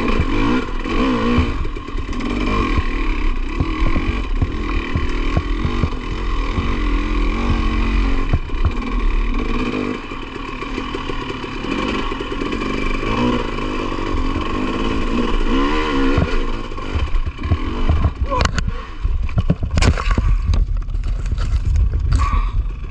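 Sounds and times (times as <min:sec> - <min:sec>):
knocks and clatter from bike: 0:00.0 - 0:22.9
motorcycle engine revving: 0:00.0 - 0:22.9.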